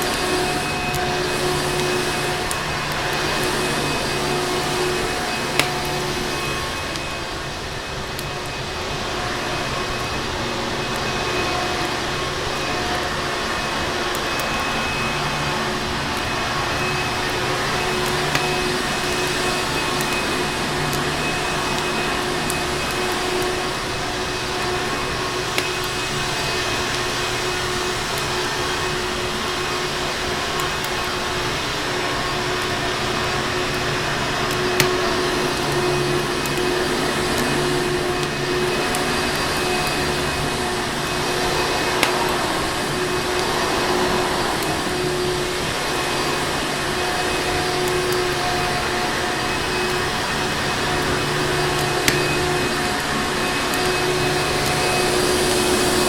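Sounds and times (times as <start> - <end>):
fireplace crackles: 0.0 - 56.0
vacuum cleaner motor humming: 0.0 - 56.0.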